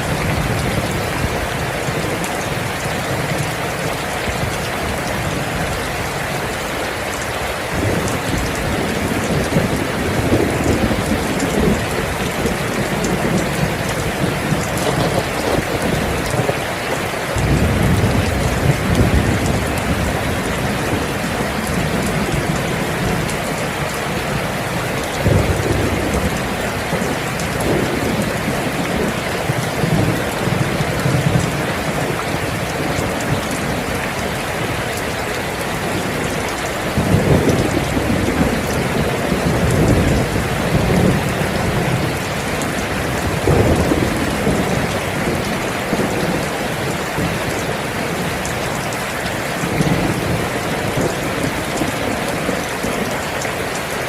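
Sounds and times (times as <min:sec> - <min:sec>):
steady rain: 0:00.0 - 0:54.0
thunder rumbling: 0:07.7 - 0:53.2.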